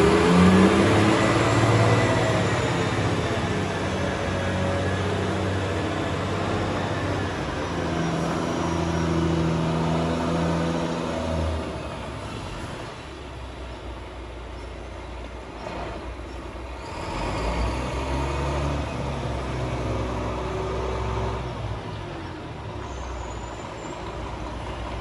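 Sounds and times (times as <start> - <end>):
diesel truck engine pulling away: 0.0 - 25.0.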